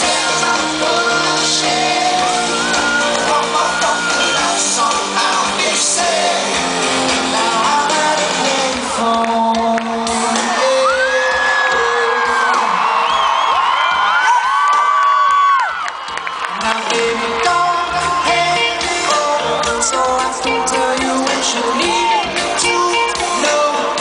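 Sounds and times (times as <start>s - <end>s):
audience shouting and whooping: 0.0s - 6.0s, 10.1s - 23.6s
live pop song with singing: 0.0s - 24.0s.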